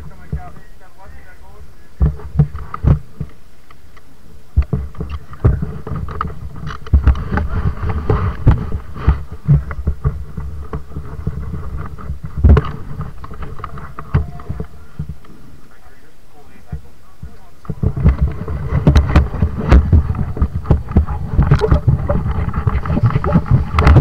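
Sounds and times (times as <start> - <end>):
low thumps and knocks: 2.0 - 3.4, 4.5 - 15.5, 16.7 - 24.0.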